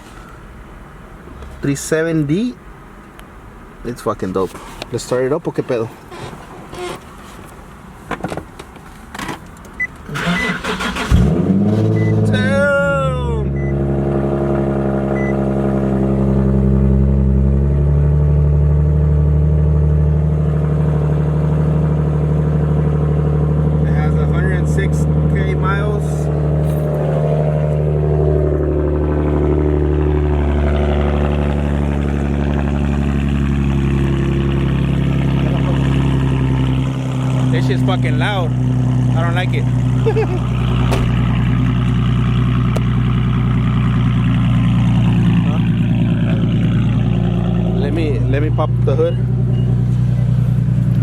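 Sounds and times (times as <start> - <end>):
car engine cranking and starting: 5.7 - 12.8, 13.4 - 51.0.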